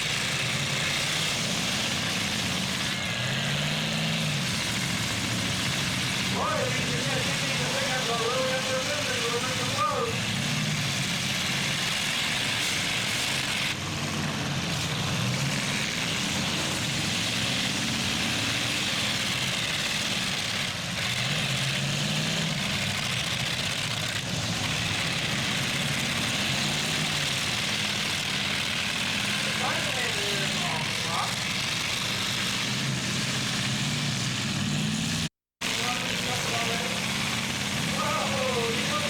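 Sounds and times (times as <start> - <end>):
truck engines revving: 0.0 - 39.0.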